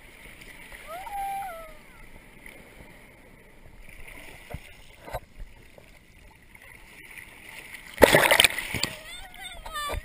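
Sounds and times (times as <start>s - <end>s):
muffled water sloshing: 0.0s - 10.0s.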